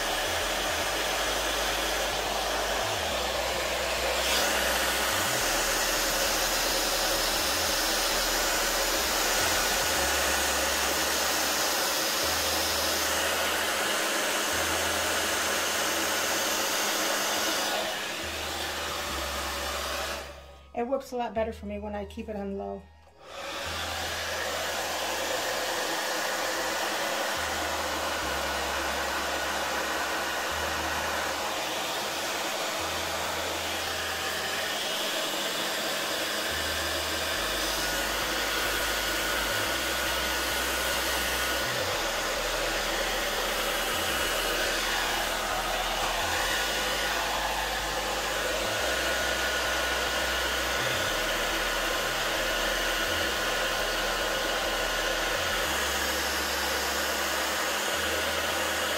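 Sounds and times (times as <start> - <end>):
hair dryer running: 0.0 - 21.0, 23.1 - 58.9.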